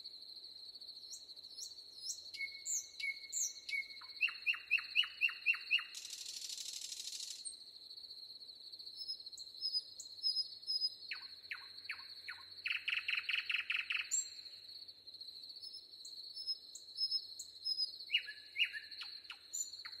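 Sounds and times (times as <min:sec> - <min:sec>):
small birds chirping: 0:01.1 - 0:07.6, 0:09.0 - 0:14.5, 0:15.6 - 0:20.0.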